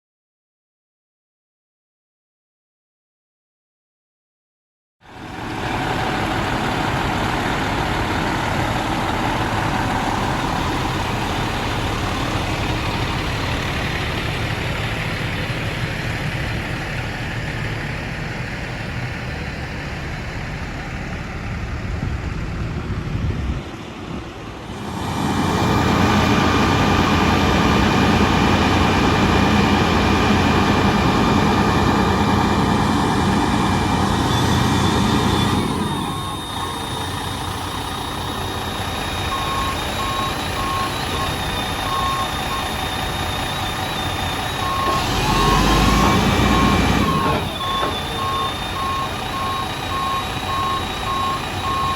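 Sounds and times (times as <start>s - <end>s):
diesel engine running: 5.0s - 51.9s.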